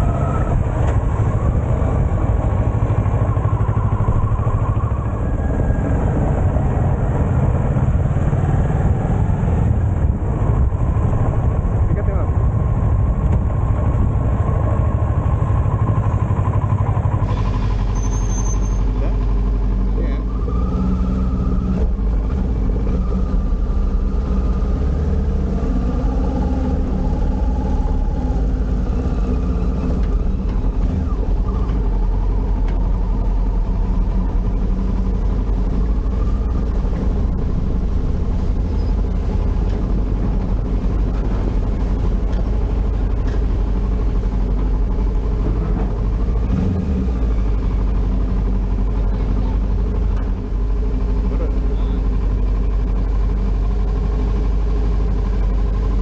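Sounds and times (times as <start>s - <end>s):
motorcycle engine low rumble: 0.0s - 56.0s.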